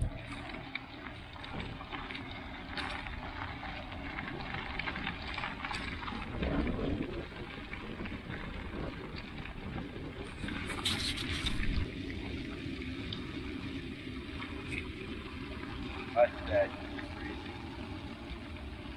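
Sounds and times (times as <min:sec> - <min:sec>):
bicycle tires rolling on snow: 0:00.0 - 0:18.9
wind rumbling on microphone: 0:00.0 - 0:18.9.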